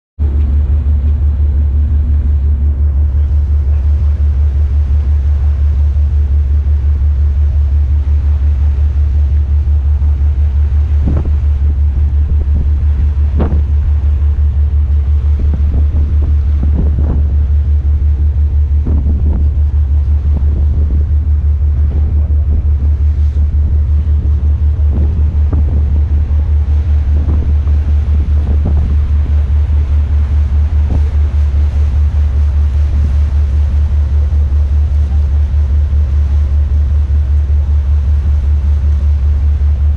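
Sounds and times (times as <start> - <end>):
boat engine pulsing rumble: 0.2 - 39.9.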